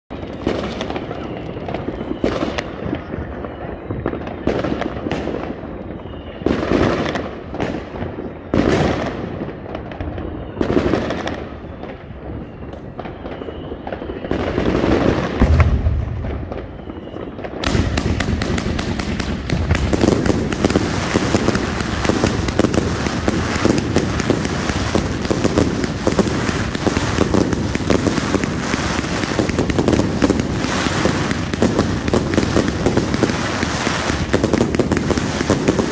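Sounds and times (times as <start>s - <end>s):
firework bangs: 0.1s - 35.9s
firework cake rapid shots and crackles: 0.1s - 35.9s.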